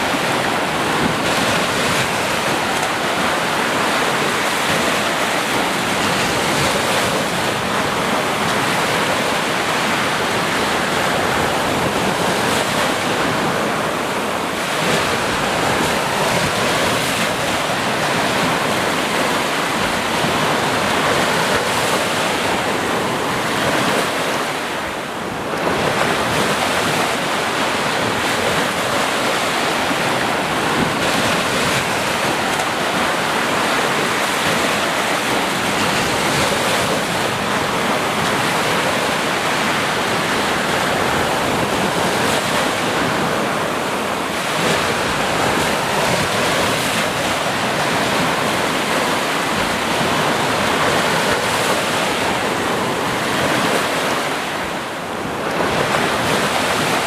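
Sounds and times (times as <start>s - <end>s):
waves breaking: 0.0s - 57.0s
wind on microphone: 0.0s - 57.0s.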